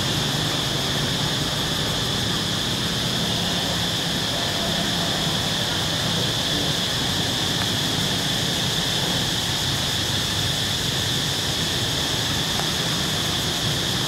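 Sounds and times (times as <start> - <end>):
high hiss: 0.0 - 14.0.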